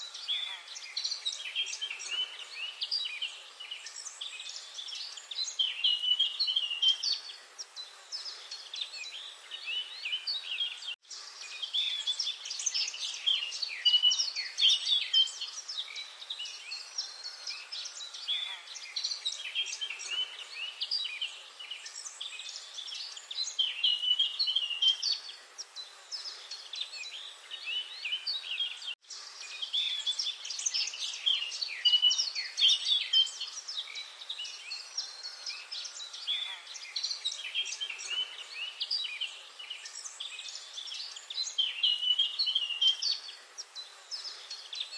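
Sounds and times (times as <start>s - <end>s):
small birds chirping in chorus: 0.0s - 44.9s.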